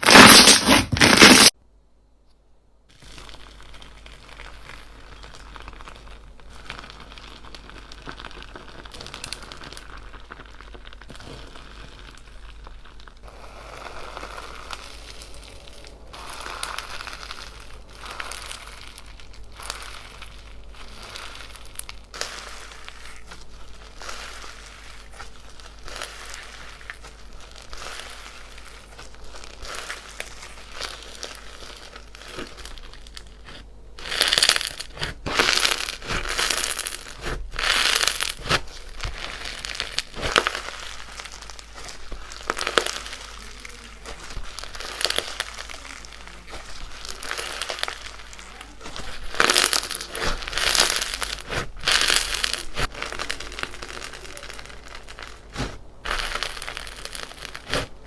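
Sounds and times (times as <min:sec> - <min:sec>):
slime crunching and crackling: 0:00.0 - 0:01.6, 0:02.9 - 0:58.0.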